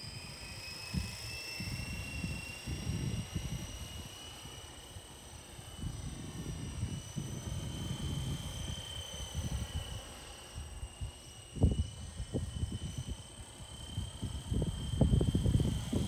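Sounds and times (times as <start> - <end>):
rc helicopter rotor whine: 0.0 - 16.0
gusty wind on microphone: 0.9 - 4.1, 5.8 - 10.0, 10.6 - 16.0.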